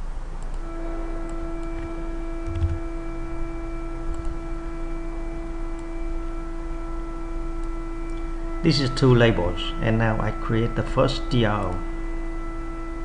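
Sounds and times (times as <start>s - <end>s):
low buzz: 0.0s - 13.0s
steady humming tone: 0.0s - 13.0s.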